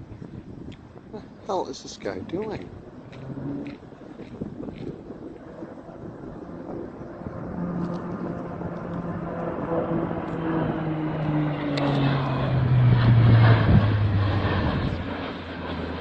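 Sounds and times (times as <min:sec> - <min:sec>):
turboprop airliner propeller drone: 0:00.0 - 0:16.0.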